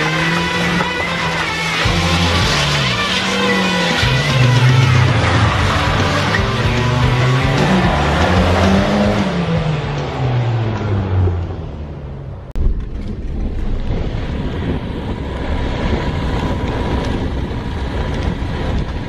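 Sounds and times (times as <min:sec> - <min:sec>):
car driving rumble: 0:00.0 - 0:19.0
car engine revving: 0:00.0 - 0:19.0.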